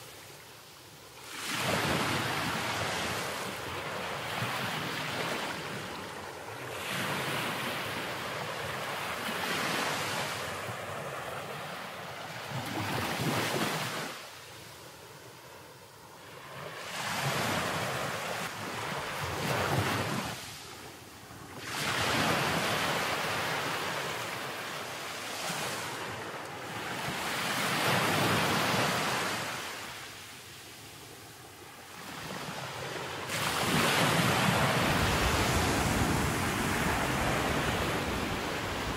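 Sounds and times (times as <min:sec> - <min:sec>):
wind: 0:00.0 - 0:38.9
ocean surf breaking on beach: 0:01.2 - 0:38.9.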